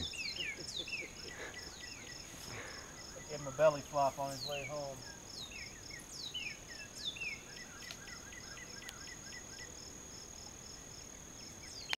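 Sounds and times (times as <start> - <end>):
birds whistling: 0.0 - 9.8
crickets chirping: 0.0 - 11.9
high-pitched insect trill: 0.0 - 11.9.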